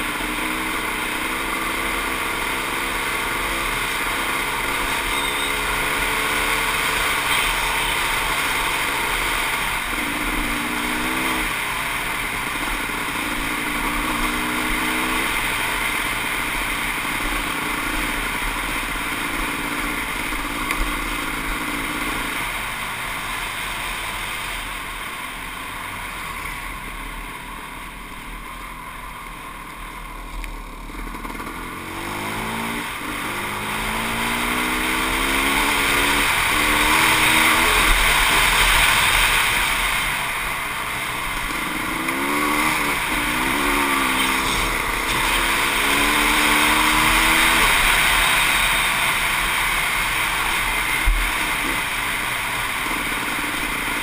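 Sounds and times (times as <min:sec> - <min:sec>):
dirt bike engine running: 0:00.0 - 0:54.0
wind and road noise: 0:00.0 - 0:54.0.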